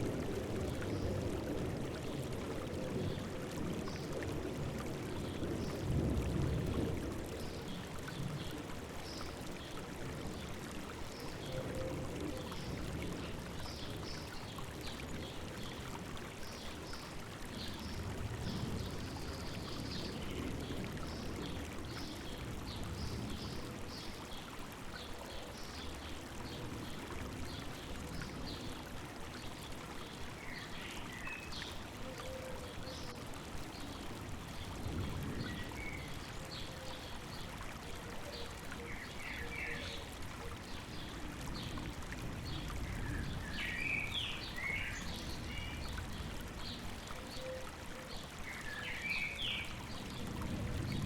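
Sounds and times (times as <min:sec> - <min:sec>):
river water babbling: 0:00.0 - 0:51.0.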